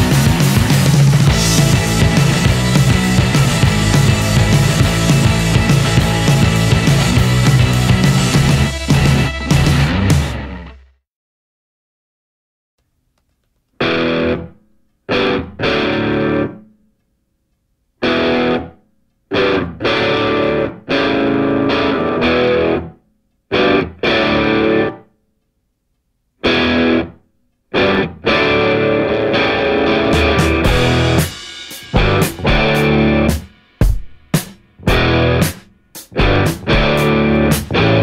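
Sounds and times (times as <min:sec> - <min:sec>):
distorted electric guitar chords: 0:00.0 - 0:11.0, 0:13.8 - 0:16.7, 0:18.0 - 0:25.0, 0:26.4 - 0:38.0.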